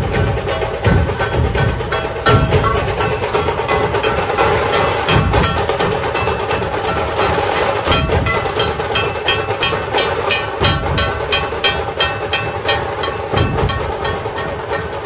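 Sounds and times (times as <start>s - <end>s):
deep drum beats: 0.0s - 15.0s
metallic strikes clattering: 0.0s - 15.0s.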